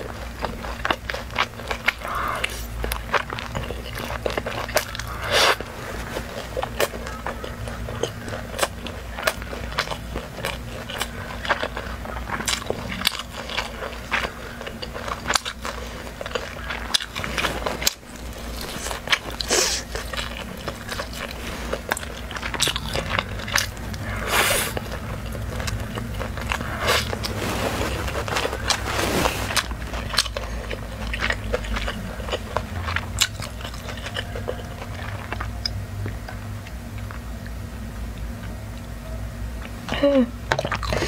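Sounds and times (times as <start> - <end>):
person chewing and biting: 0.0 - 37.6
mouth clicks and crunches: 0.0 - 39.0, 39.6 - 41.0
steady low hum: 0.0 - 41.0.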